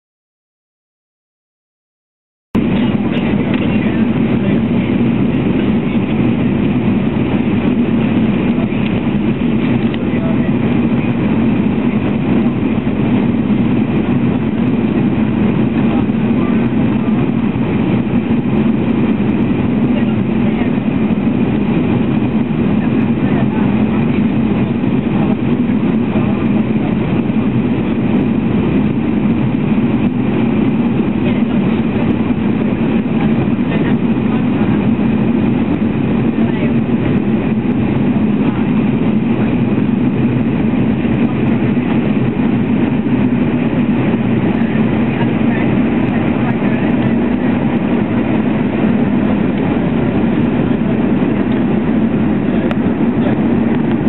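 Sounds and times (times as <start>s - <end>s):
vehicle rumbling drone: 2.6s - 54.0s.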